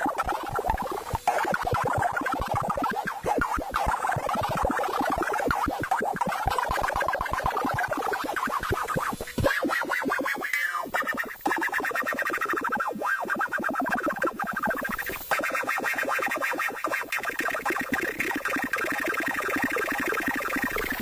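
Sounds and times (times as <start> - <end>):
pulsing electronic synthesizer tone: 0.0 - 9.6, 11.1 - 21.0.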